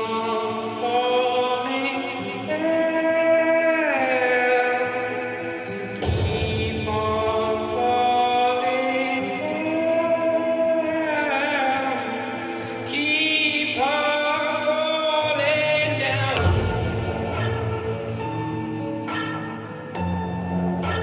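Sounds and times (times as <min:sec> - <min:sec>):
layered voices singing: 0:00.0 - 0:18.8.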